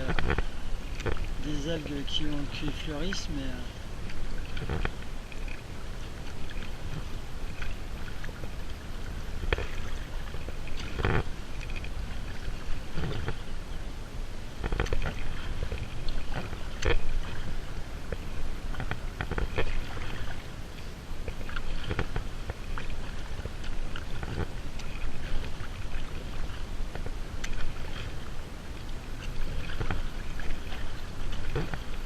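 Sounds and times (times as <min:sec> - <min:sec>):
paddle splashing in water: 0:00.0 - 0:32.0.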